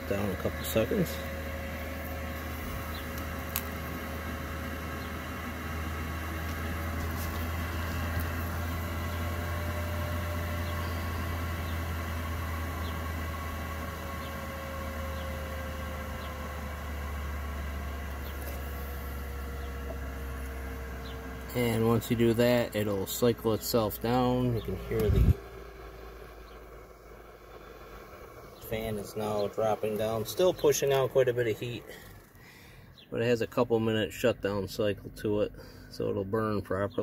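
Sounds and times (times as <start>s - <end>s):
heater fan humming with whine: 0.0s - 37.0s.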